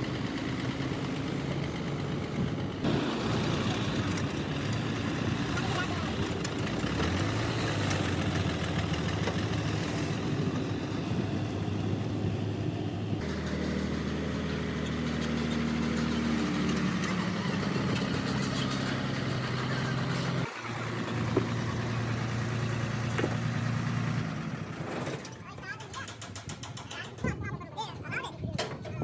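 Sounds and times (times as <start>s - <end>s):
truck diesel engine running: 0.0s - 28.1s.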